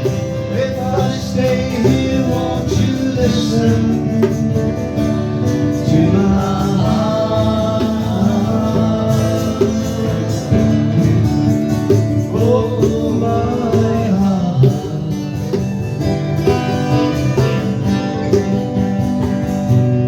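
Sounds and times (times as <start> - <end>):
country-folk band playing: 0.0 - 20.0
plucked guitar: 0.0 - 20.0.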